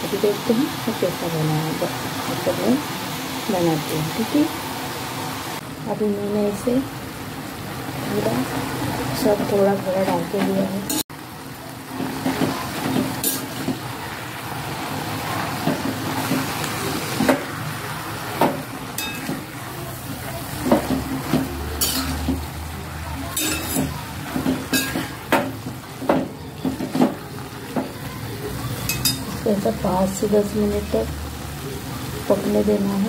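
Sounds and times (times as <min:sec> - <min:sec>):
leaves sizzling in oil: 0:00.0 - 0:33.0.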